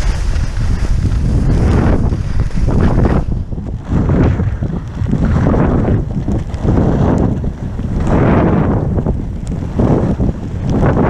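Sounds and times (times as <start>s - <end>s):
skis sliding on packed snow: 0.0s - 11.0s
wind buffeting microphone: 0.0s - 11.0s.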